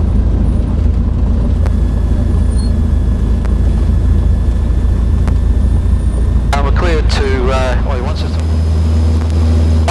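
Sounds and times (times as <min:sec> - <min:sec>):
aircraft engine droning: 0:00.0 - 0:09.9.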